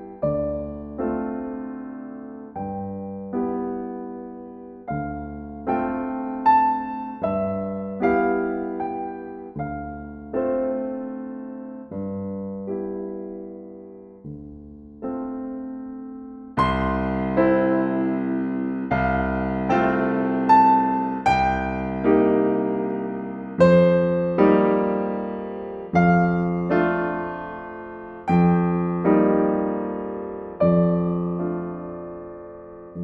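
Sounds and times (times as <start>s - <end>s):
gentle solo piano: 0.0s - 33.0s.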